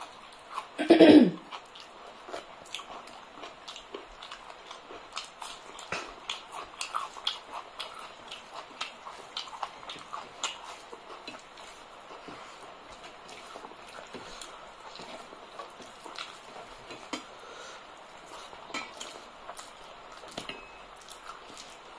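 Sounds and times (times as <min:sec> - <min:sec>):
wet chewing and lip smacks: 0:01.4 - 0:17.2, 0:18.3 - 0:21.9.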